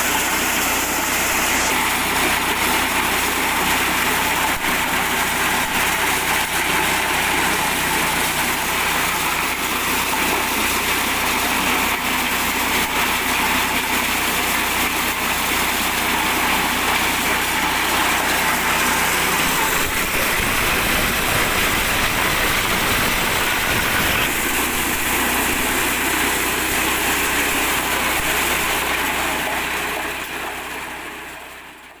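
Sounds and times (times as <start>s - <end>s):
corn sheller hissing: 0.0s - 31.6s
small petrol engine running: 0.0s - 32.0s.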